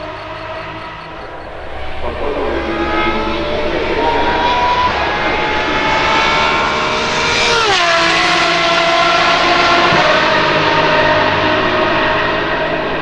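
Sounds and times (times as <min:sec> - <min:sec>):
car engine at high revs passing: 0:01.2 - 0:13.0.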